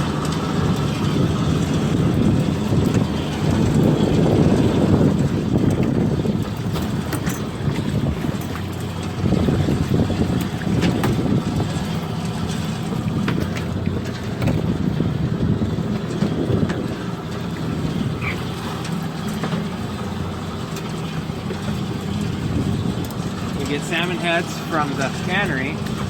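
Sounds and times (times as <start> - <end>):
boat engine running: 0.0 - 26.0
sea noise: 0.0 - 26.0
wind: 0.0 - 26.0.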